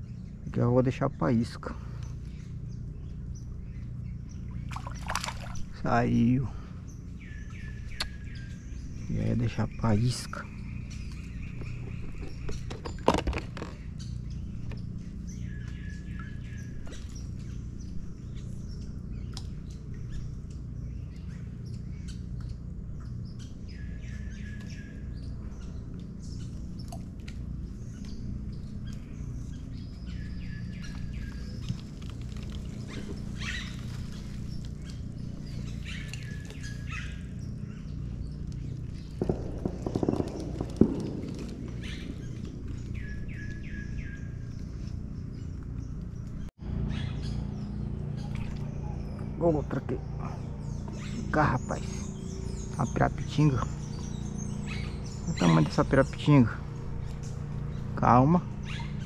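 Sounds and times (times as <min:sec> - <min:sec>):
birds calling: 0:00.0 - 0:59.0
steady low rumble: 0:00.0 - 0:59.0.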